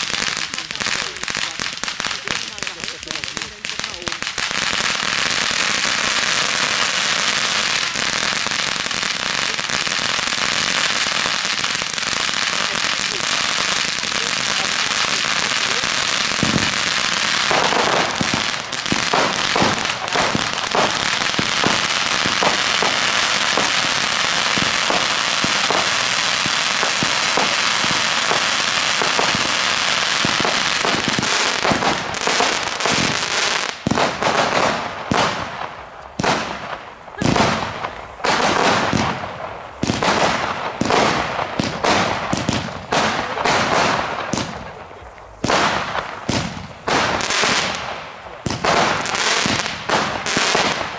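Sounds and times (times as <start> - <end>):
crackling firework fountain hiss: 0.0 - 50.9
firework shots with crackling bursts: 0.0 - 50.9.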